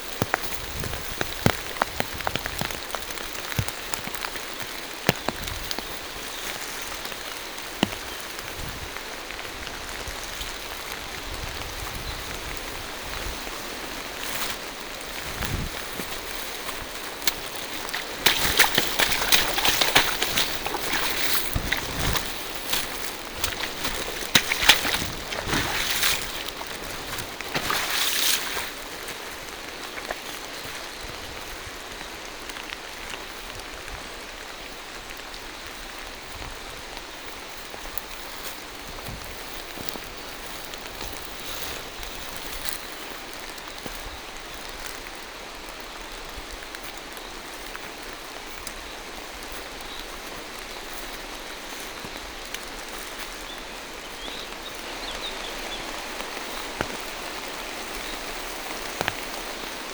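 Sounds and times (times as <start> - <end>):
rain falling through foliage: 0.0 - 59.9
sharp raindrops: 0.0 - 59.9.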